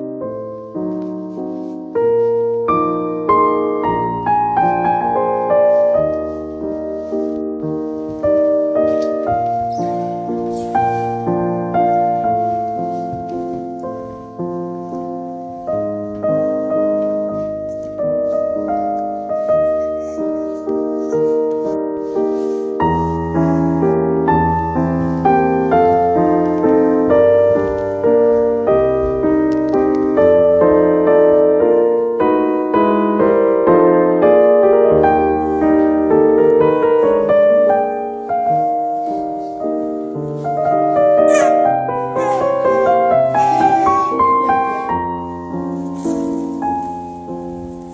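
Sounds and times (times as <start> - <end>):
gentle piano chords: 0.0 - 47.9.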